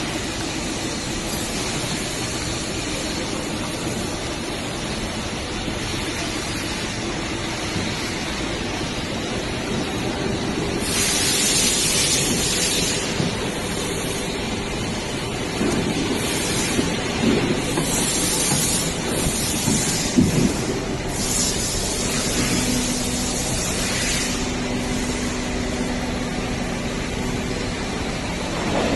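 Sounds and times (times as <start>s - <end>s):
labelling machine running: 0.0s - 28.9s
machine hiss: 5.6s - 28.9s.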